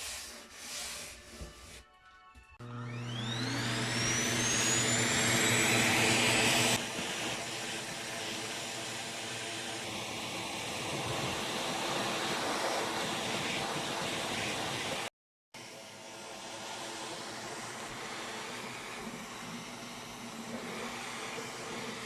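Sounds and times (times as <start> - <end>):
vacuum cleaner motor whine: 2.6 - 22.0.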